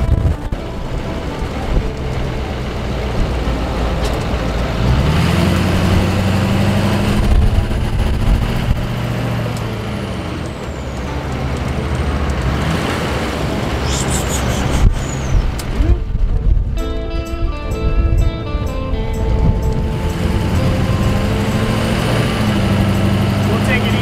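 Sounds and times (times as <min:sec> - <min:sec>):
diesel engine at highway speed: 0:00.0 - 0:16.9, 0:17.5 - 0:24.0
wind and road noise: 0:00.0 - 0:24.0.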